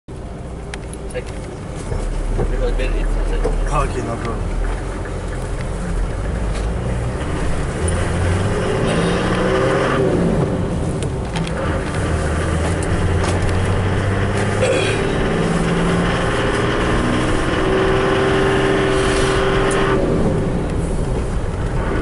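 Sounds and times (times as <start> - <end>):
road noise: 0.1 - 22.0
vehicle engine: 0.1 - 22.0.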